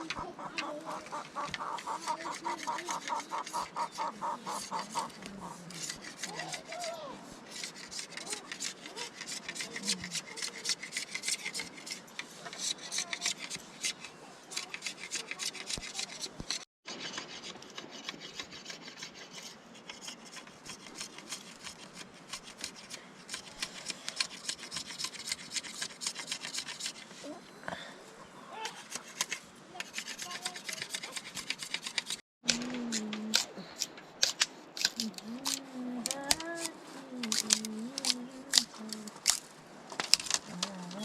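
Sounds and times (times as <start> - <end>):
rapid rasping scrapes: 0.0 - 27.3, 28.6 - 41.0.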